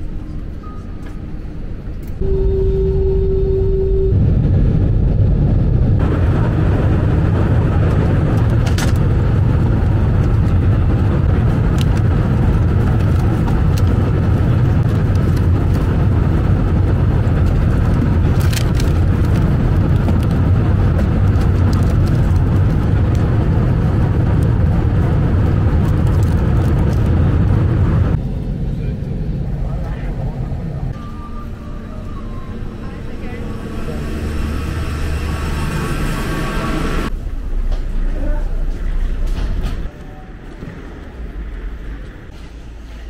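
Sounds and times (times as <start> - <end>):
airliner cabin drone: 0.0 - 43.0.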